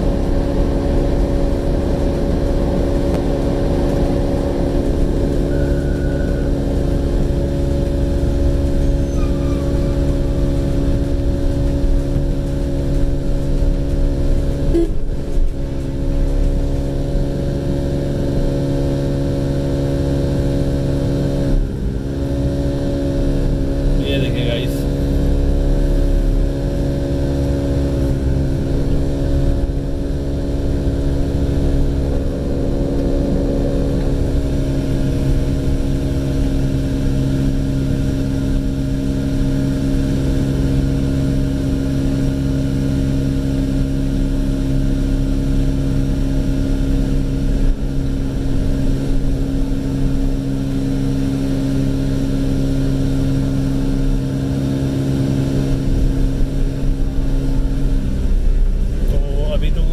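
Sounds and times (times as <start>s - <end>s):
car engine drone: 0.0s - 59.9s
low road rumble: 0.0s - 59.9s.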